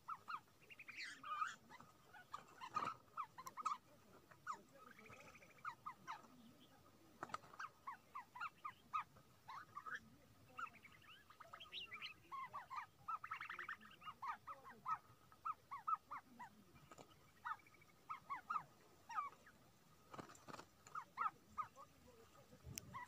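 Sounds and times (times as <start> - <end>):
buzzy chattering bird calls: 0.0 - 23.0
small birds chirping: 0.0 - 23.0.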